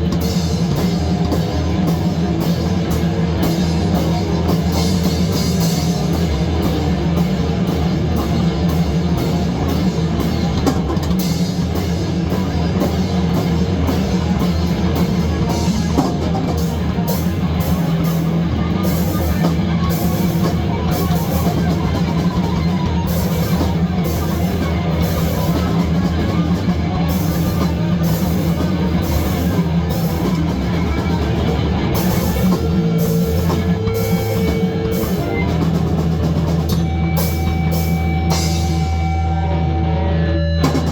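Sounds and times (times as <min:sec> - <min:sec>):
distorted guitar: 0:00.0 - 0:40.9
drum kit: 0:00.0 - 0:40.9.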